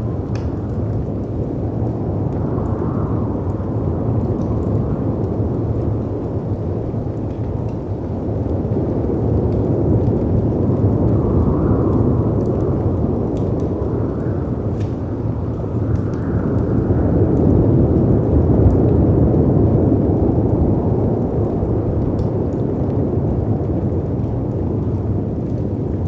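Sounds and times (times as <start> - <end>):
storm wind: 0.0 - 26.0
wood fire crackling: 0.0 - 26.0.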